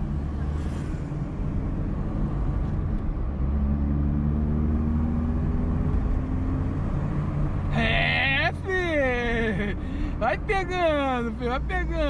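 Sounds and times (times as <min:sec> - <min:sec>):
car engine rumble from cabin: 0:00.0 - 0:12.0.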